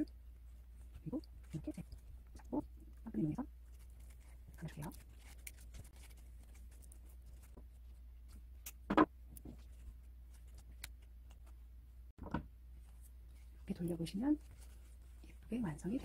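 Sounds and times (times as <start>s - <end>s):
low steady hum: 0.0s - 16.0s
ribbon rustling: 0.1s - 11.7s, 12.7s - 16.0s.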